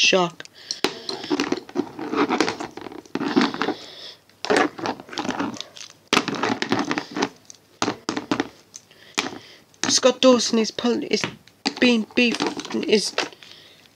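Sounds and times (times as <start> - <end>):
plastic figures rustling and scraping: 0.7 - 13.9.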